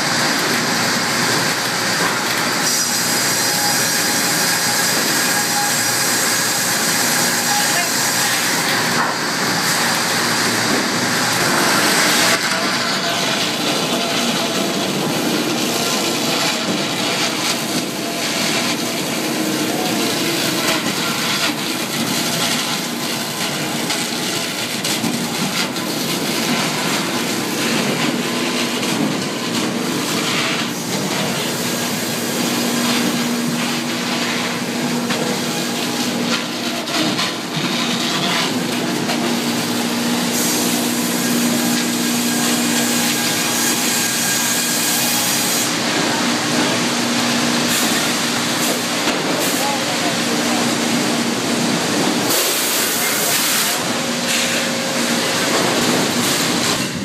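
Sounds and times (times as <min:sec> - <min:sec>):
sawmill machinery din: 0:00.0 - 0:57.0.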